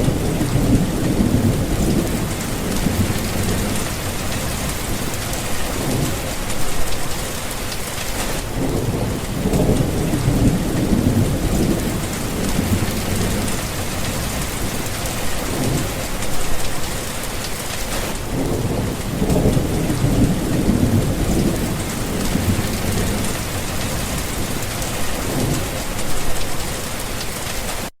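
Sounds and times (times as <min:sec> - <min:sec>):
rolling thunder: 0:00.0 - 0:07.6, 0:08.3 - 0:17.1, 0:18.0 - 0:26.6
heavy rain: 0:00.0 - 0:27.9.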